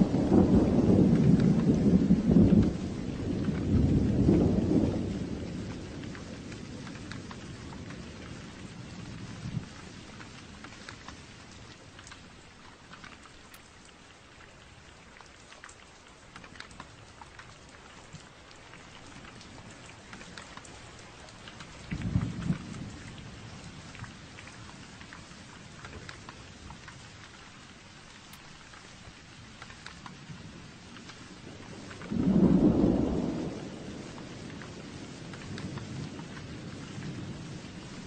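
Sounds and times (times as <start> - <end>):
low rumble of thunder: 0.0 - 12.5, 16.5 - 27.4, 28.3 - 38.0
raindrops pattering: 0.0 - 38.0
steady rain: 0.0 - 38.0.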